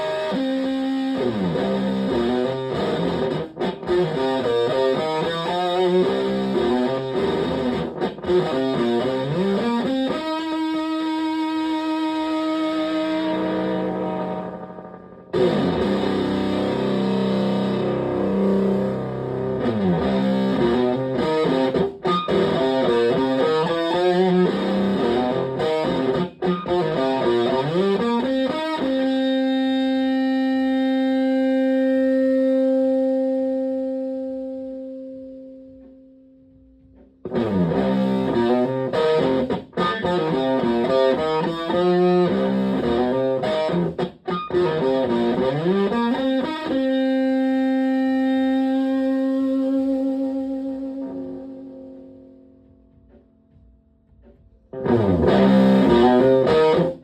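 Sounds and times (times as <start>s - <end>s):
fuzzed electric guitar riffs: 0.0s - 57.0s.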